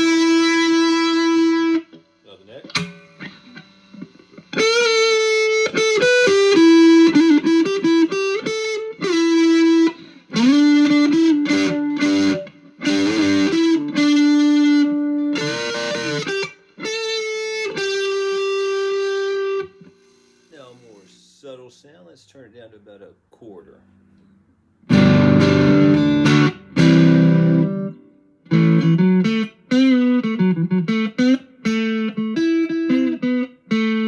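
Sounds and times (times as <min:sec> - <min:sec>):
distorted electric guitar: 0:00.0 - 0:21.2, 0:24.9 - 0:34.0.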